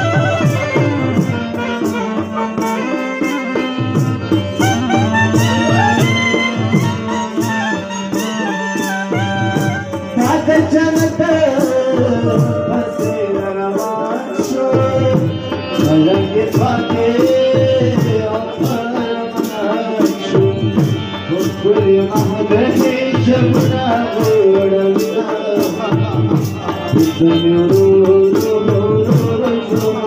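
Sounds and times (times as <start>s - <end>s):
men singing: 0.0s - 30.0s
steady drum beat: 0.0s - 30.0s.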